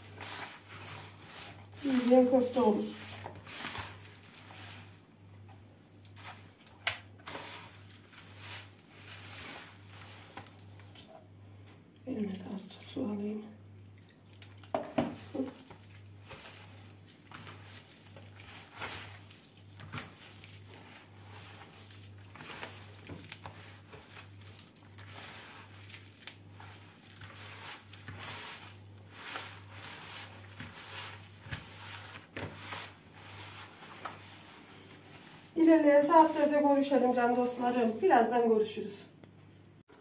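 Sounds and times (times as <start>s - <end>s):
hands kneading wet meat mixture: 0.0s - 11.3s, 12.1s - 38.7s.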